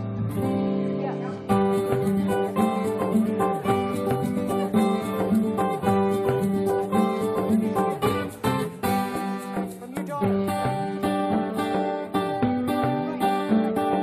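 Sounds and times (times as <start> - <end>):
acoustic guitar plucked notes: 0.0 - 14.0.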